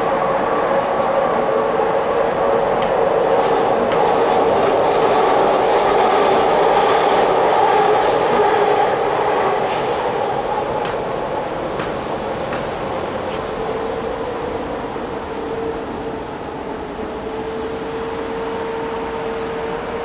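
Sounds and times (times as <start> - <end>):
moving vehicle rumble: 0.2 - 20.0.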